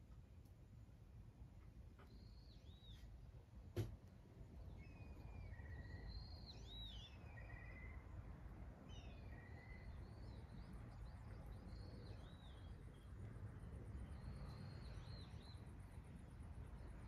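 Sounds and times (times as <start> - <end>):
faint low background noise: 0.0 - 17.0
small songbird chirping: 1.9 - 3.4, 4.3 - 17.0.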